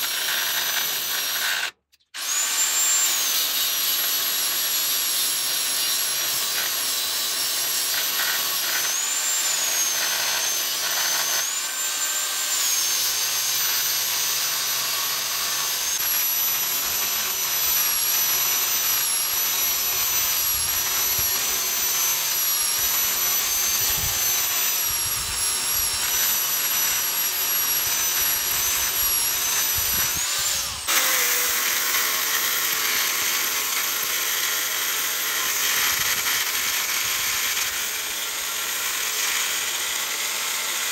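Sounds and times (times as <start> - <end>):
angle grinder cutting steel: 0.0 - 40.9
second angle grinder: 0.0 - 40.9.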